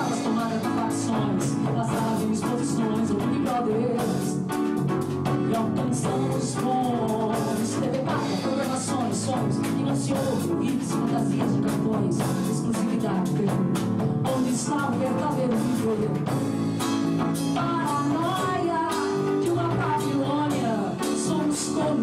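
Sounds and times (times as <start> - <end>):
person singing: 0.0 - 16.5, 17.4 - 22.0
drum kit with cymbals: 0.0 - 22.0
guitar: 0.0 - 22.0.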